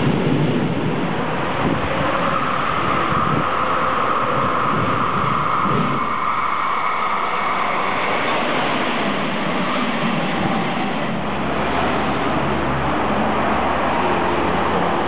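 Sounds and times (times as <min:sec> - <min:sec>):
diesel railcar rumble: 0:00.0 - 0:15.0
road traffic: 0:00.0 - 0:15.0
train passing on rails: 0:00.0 - 0:15.0.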